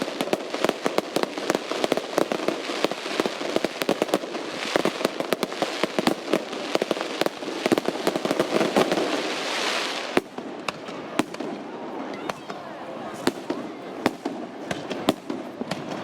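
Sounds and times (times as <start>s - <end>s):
fireworks cracking and popping: 0.0s - 16.0s
hissing crackle of fireworks: 0.0s - 16.0s.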